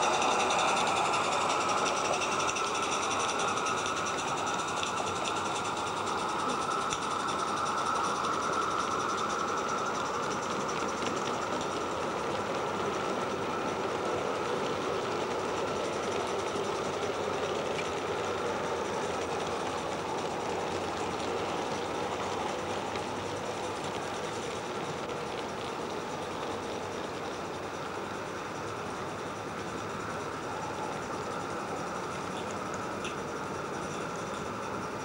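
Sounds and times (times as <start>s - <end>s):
small steam locomotive: 0.0s - 35.0s
train coaches rolling on track: 0.0s - 35.0s.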